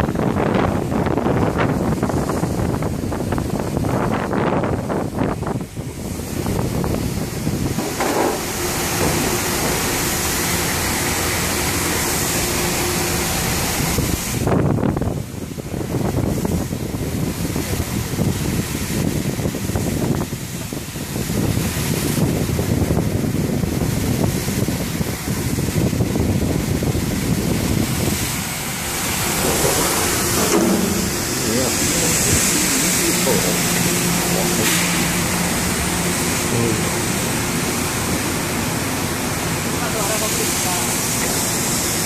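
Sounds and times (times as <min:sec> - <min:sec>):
water spray jets hissing: 0:00.0 - 0:42.0.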